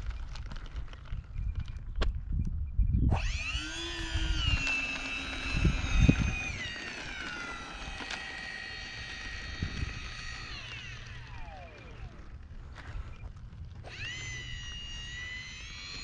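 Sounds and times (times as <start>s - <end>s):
wind rumble on microphone: 0.0s - 8.0s, 8.8s - 16.0s
electric ducted fans whining: 2.4s - 16.0s.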